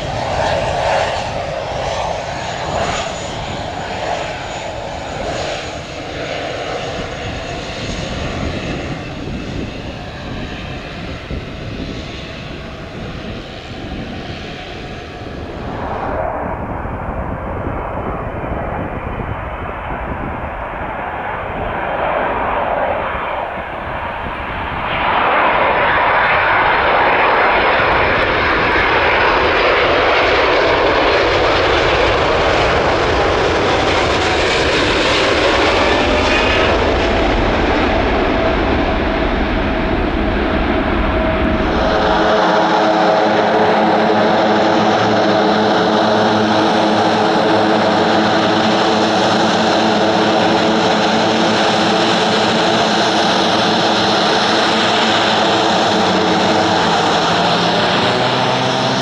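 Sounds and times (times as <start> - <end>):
jet engines spooling up: 0.0 - 59.0
turboprop turbine whine: 0.0 - 59.0.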